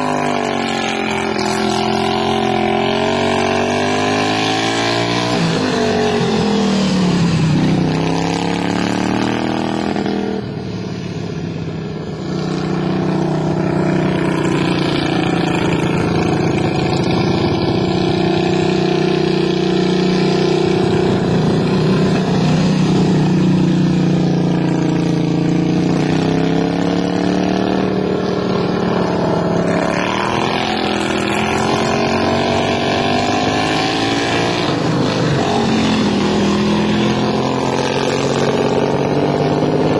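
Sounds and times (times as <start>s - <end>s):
racing lawn mower engine running: 0.0s - 39.9s.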